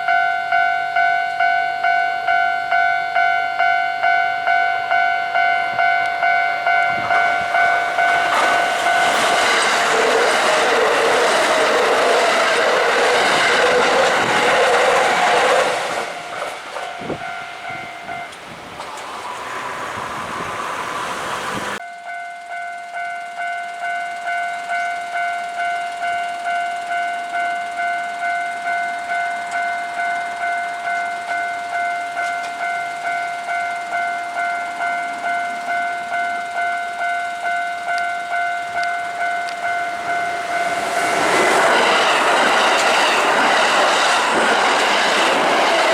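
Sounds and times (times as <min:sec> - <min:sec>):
crossing warning bell dinging: 0:00.0 - 0:45.9
train rumbling with wheel clatter: 0:05.4 - 0:21.8, 0:24.2 - 0:45.9.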